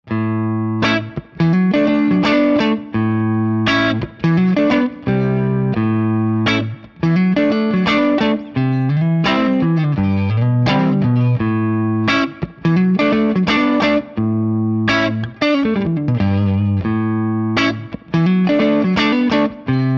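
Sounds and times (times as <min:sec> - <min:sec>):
clean electric guitar playing: 0:00.1 - 0:19.9.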